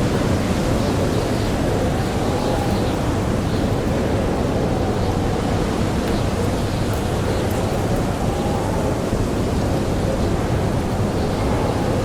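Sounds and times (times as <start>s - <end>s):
rushing blizzard wind: 0.0s - 12.0s
wavering wind howl: 0.0s - 12.0s.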